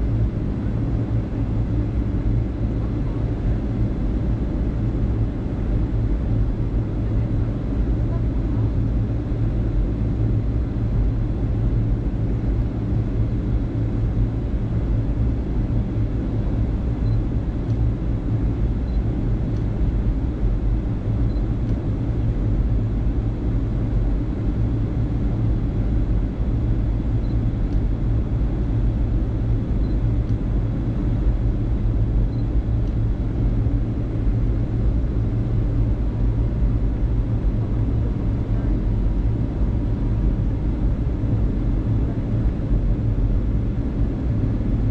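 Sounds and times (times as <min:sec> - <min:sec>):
airliner engine rumble in flight: 0:00.0 - 0:44.9.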